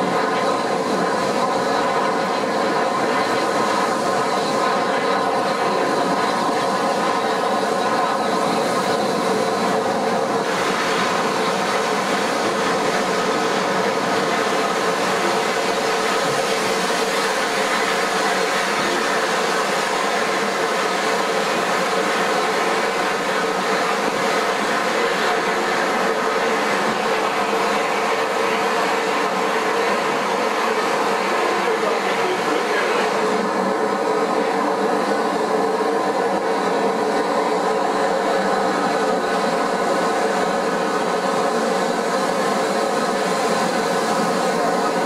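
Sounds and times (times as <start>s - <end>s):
steam hissing with ringing tone: 0.0s - 45.0s.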